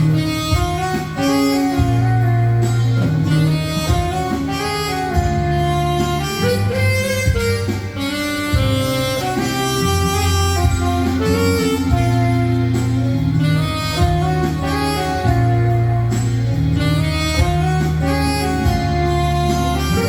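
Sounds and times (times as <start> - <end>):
backing track with bass: 0.0 - 20.0
saxophone ballad melody: 0.0 - 20.0.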